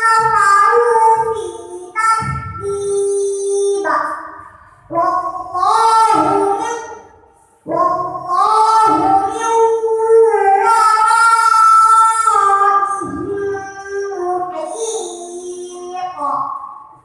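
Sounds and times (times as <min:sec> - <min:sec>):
girl chanting melodic recitation: 0:00.0 - 0:17.0.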